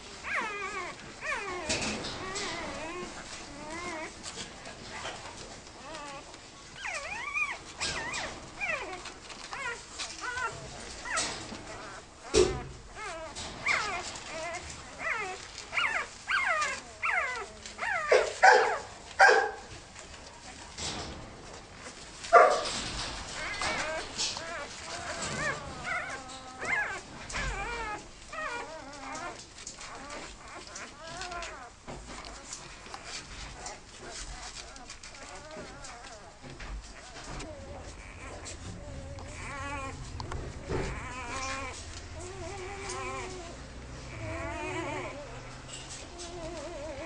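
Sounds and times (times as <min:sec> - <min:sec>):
puppy whining: 0:00.0 - 0:47.0.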